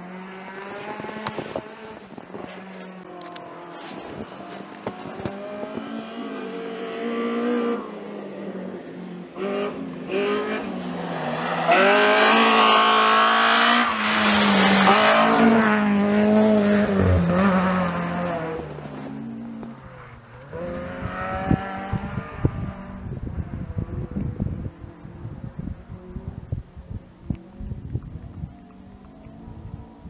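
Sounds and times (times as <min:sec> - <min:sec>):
rally car engine revving: 0:00.0 - 0:08.3, 0:09.3 - 0:26.5.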